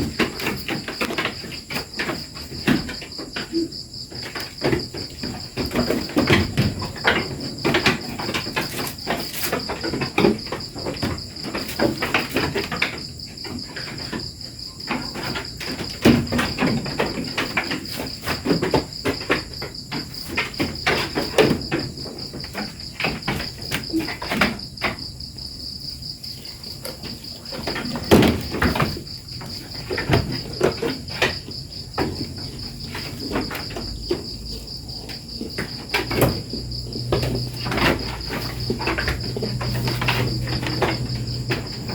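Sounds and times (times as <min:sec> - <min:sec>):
high-pitched insect chorus: 0:00.0 - 0:41.9
knocks and clatters: 0:00.0 - 0:41.9.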